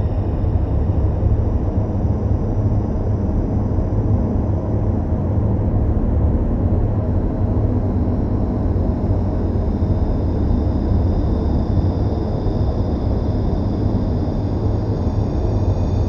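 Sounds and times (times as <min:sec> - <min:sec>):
deep rumbling drone music: 0:00.0 - 0:16.0.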